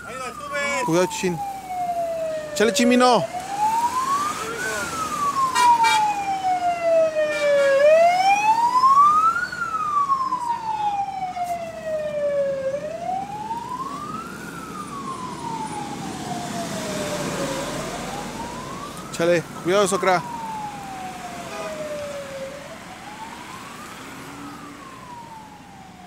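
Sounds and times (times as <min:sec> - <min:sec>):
passing traffic: 0:00.0 - 0:26.0
police siren wailing: 0:00.0 - 0:26.0.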